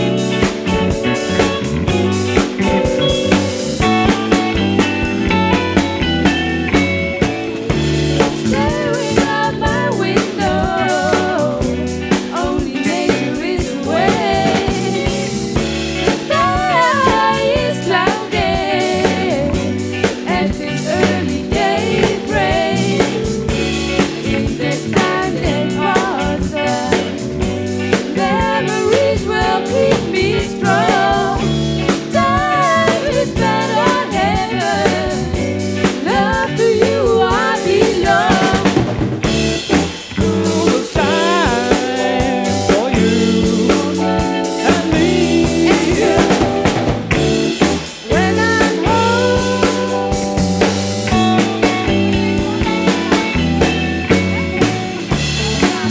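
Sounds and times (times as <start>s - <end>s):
bass guitar: 0.0s - 55.9s
drum kit: 0.0s - 55.9s
electric guitars: 0.0s - 55.9s
person singing: 8.2s - 39.0s, 40.2s - 55.9s.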